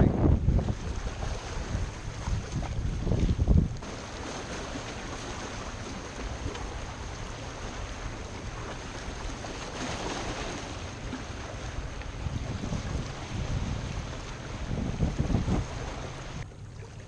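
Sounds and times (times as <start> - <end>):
waves rushing: 0.0 - 17.0
wind rumbling on microphone: 0.0 - 17.0.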